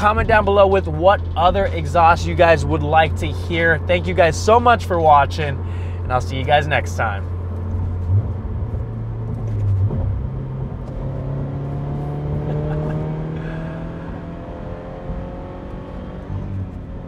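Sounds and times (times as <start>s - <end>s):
car exhaust note accelerating: 0.0s - 17.0s.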